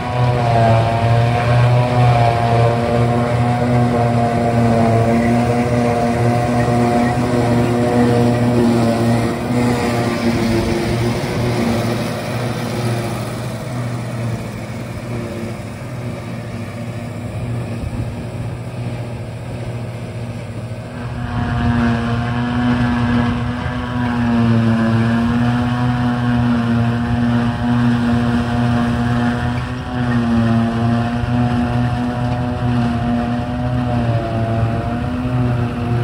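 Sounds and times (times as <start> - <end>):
forage harvester droning: 0.0 - 36.0.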